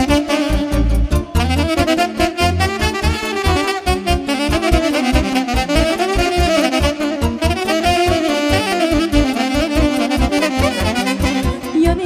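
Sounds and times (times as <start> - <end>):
saxophone playing folk dance tune: 0.0 - 12.0.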